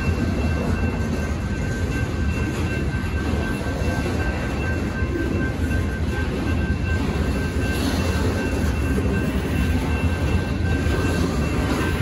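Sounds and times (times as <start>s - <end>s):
crossing warning bell dinging: 0.0s - 12.0s
train wheels rumbling on rails: 0.0s - 12.0s.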